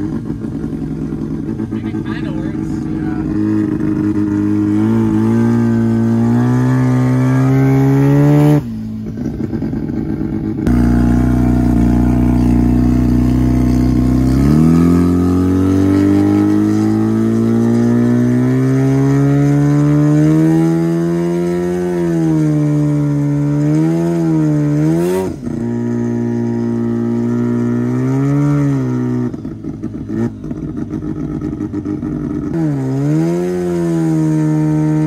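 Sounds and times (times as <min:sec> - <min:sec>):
rotary engine accelerating: 0:00.0 - 0:35.0.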